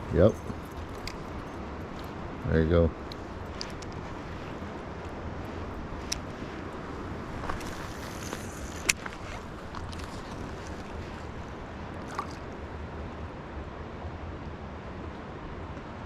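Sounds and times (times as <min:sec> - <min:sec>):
stream water flowing: 0:00.0 - 0:15.7.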